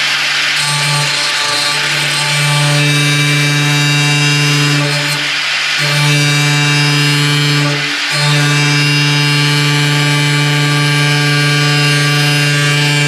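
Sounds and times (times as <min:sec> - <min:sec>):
power tool cutting sheet metal: 0:00.0 - 0:13.0.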